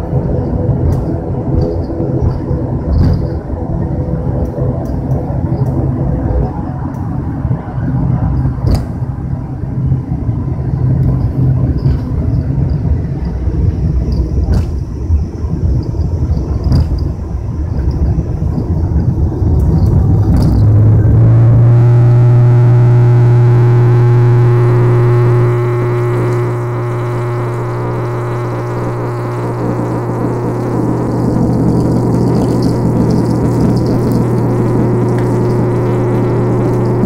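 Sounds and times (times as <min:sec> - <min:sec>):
turboprop engine drone: 0:00.0 - 0:37.0.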